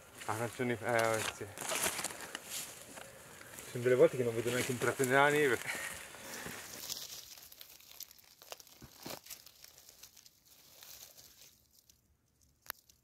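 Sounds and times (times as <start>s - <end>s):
dry leaves crackling and rustling: 0.1s - 13.0s.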